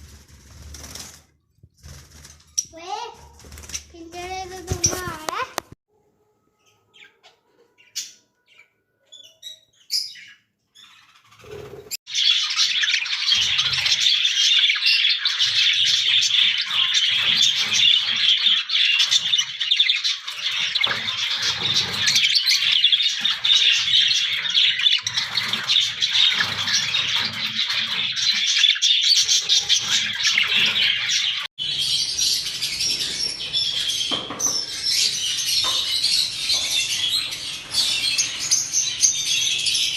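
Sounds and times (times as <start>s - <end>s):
caged birds chirping: 6.4s - 39.9s.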